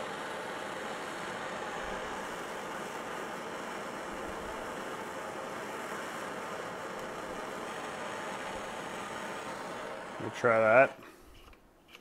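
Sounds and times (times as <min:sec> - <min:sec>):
gas torch hissing: 0:00.0 - 0:11.6.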